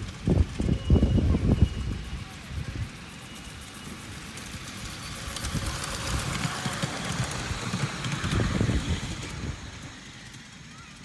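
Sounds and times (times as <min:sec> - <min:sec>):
steam locomotive exhaust beats: 0:00.0 - 0:11.0
train wheels clattering on rails: 0:00.0 - 0:11.0.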